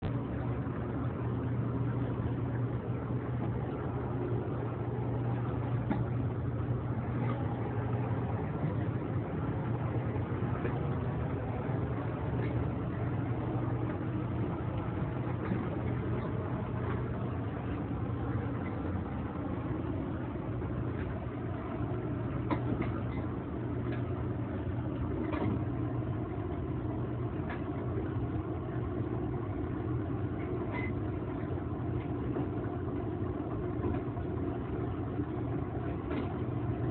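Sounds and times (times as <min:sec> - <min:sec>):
engine idling rumble: 0:00.0 - 0:36.9.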